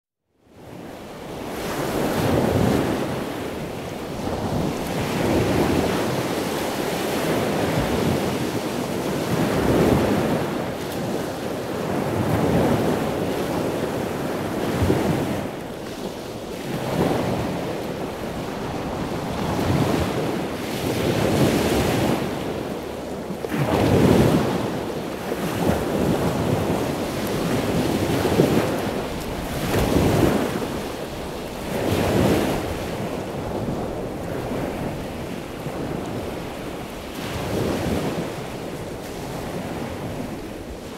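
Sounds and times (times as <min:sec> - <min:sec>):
rushing surf or wind: 0:00.4 - 0:40.9.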